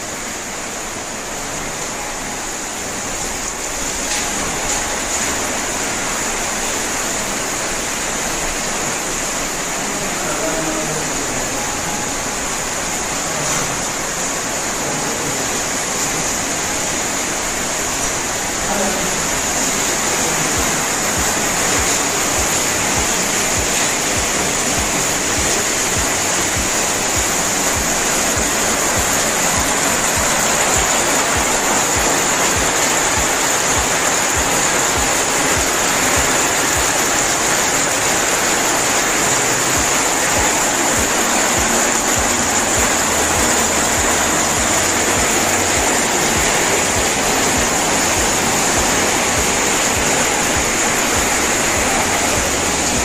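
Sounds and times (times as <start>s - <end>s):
loud rushing noise: 0.0s - 53.0s.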